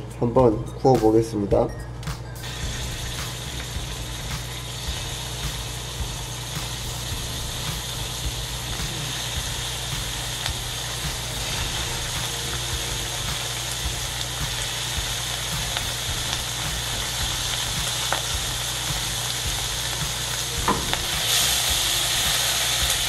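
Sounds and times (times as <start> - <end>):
meat sizzling in a frying pan: 2.4 - 23.0.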